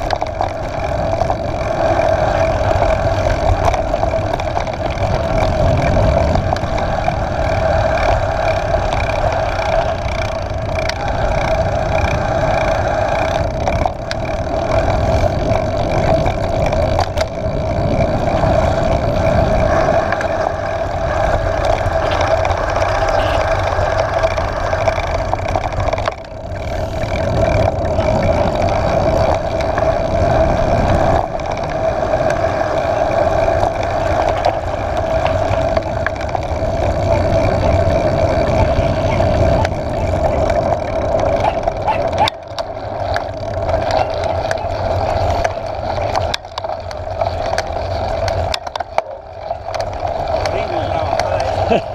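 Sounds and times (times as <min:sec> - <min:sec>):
wind rushing over microphone: 0:00.0 - 0:48.8
bike tyres rolling: 0:00.0 - 0:51.9.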